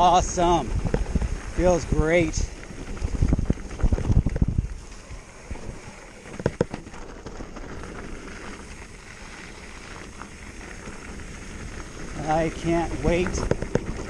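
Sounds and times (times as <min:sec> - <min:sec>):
bike jolting over bumps: 0:00.0 - 0:14.0
bike tyres rolling on dirt: 0:00.0 - 0:14.0
wind noise: 0:00.0 - 0:14.0.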